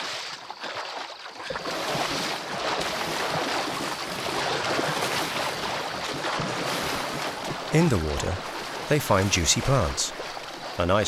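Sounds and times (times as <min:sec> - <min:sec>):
river water rushing and splashing: 0:00.0 - 0:11.0.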